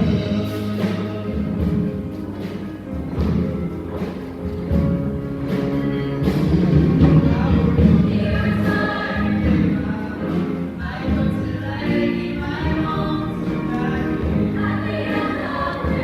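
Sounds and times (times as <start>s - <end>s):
choir singing: 0.0s - 4.5s, 5.4s - 16.0s
musical accompaniment: 0.0s - 16.0s.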